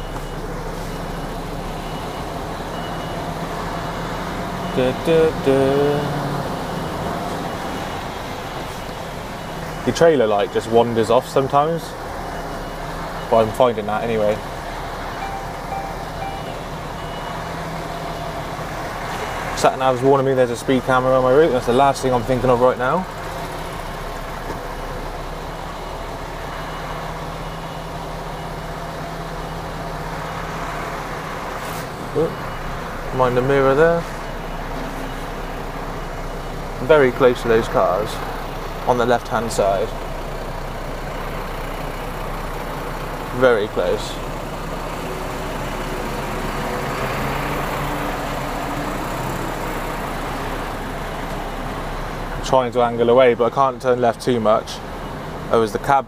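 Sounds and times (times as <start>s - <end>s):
lorry diesel engine idling: 0.0s - 56.0s.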